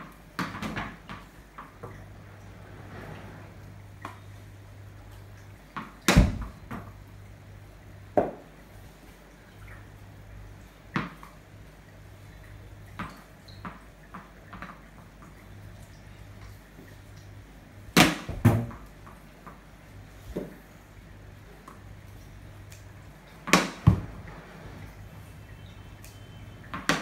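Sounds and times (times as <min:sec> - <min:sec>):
low steady hum: 0:01.0 - 0:27.0.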